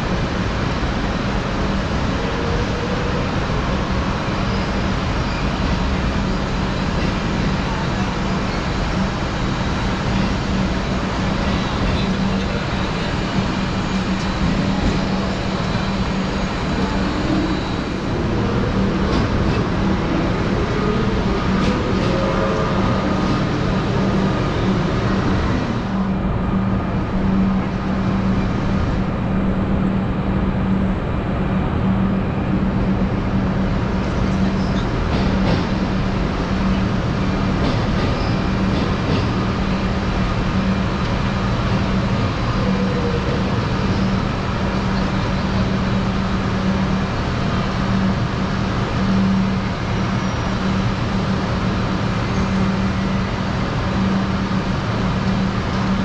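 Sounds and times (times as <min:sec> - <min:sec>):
busy station noise: 0:00.0 - 0:56.0.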